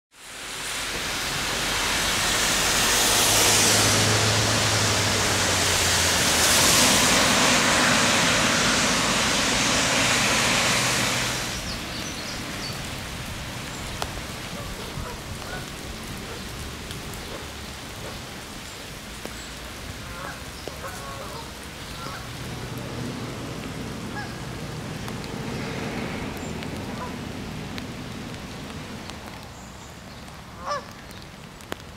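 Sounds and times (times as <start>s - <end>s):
rain falling on puddles: 0.1s - 31.9s
tyres hissing through water: 0.1s - 31.9s
passing vehicle engines: 0.2s - 30.4s.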